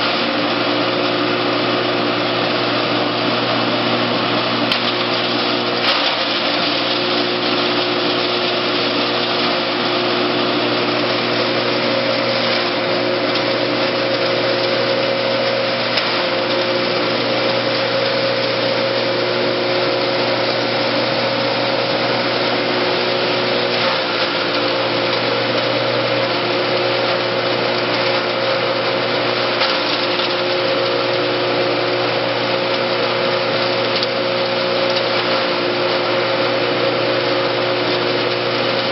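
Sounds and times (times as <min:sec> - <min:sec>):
forage chopper whirring: 0:00.0 - 0:38.9.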